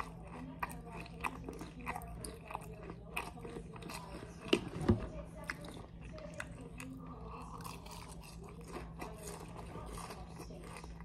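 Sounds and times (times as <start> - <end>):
person chewing cereal: 0.0 - 11.0.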